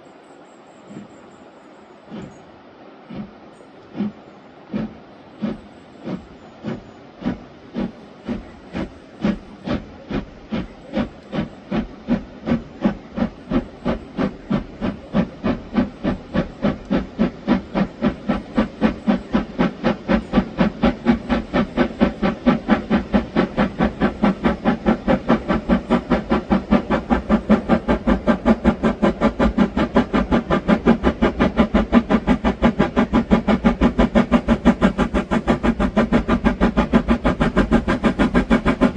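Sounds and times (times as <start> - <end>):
steam locomotive chuffing: 0.0 - 38.9.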